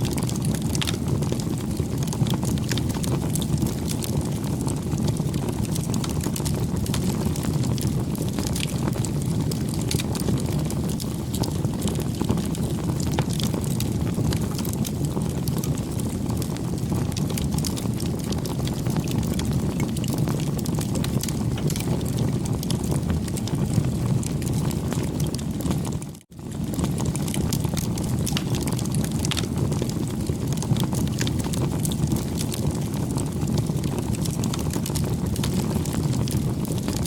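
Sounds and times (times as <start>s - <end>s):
campfire burning: 0.0s - 37.0s
wood crackling and popping: 0.0s - 37.0s.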